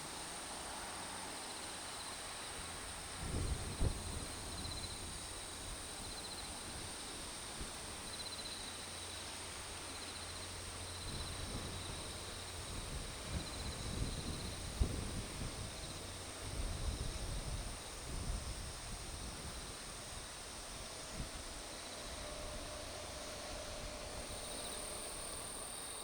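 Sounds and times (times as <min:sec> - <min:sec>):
insects high-pitched drone: 0:00.0 - 0:26.0
pulsing insect trill: 0:03.7 - 0:26.0.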